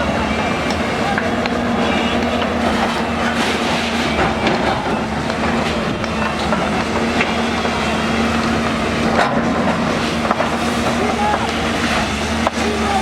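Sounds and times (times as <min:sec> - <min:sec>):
engine humming and rumbling: 0:00.0 - 0:13.0.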